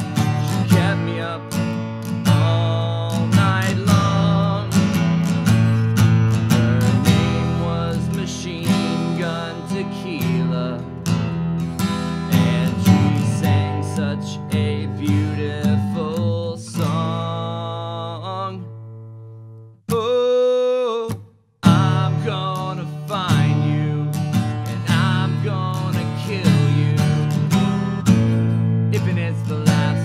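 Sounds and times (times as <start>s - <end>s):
acoustic guitar picked and strummed: 0.0s - 30.0s.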